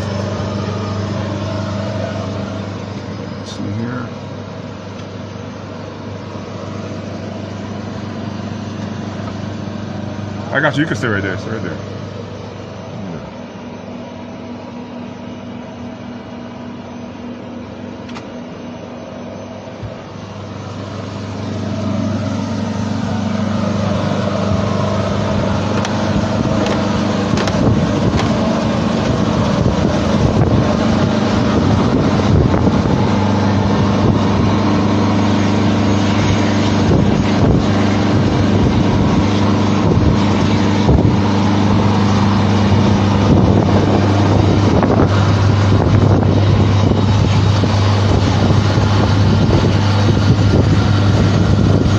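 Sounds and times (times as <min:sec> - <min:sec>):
engine humming and roaring: 0:00.0 - 0:51.9.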